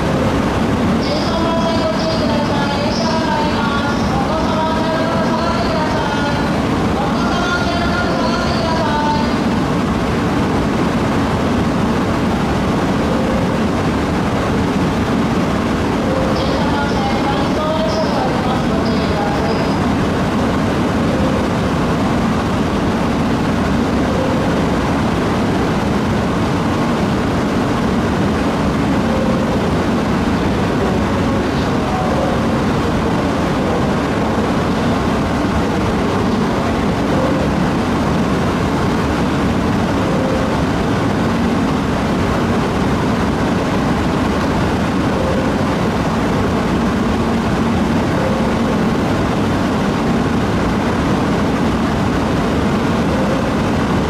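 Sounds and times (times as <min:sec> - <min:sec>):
trains rumbling at a platform: 0:00.0 - 0:54.0.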